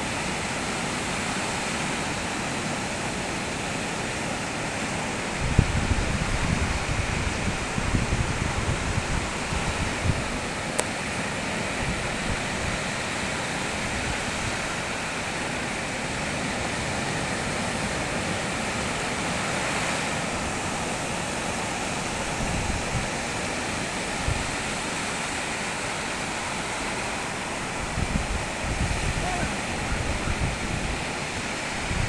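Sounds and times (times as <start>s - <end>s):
sea surf washing: 0.0s - 32.0s
wind rumbling on microphone: 4.4s - 32.0s.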